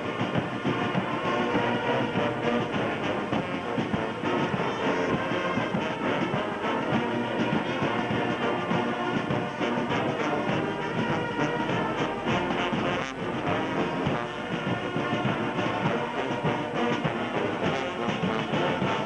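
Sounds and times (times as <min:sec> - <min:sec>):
brass band music: 0:00.0 - 0:19.0.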